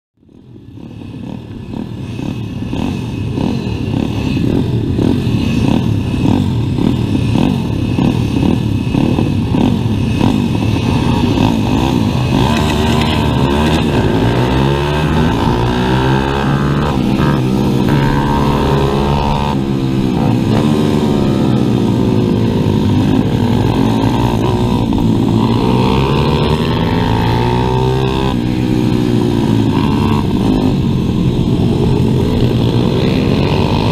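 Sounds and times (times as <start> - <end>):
pit bike engine revving: 0.8 - 33.9.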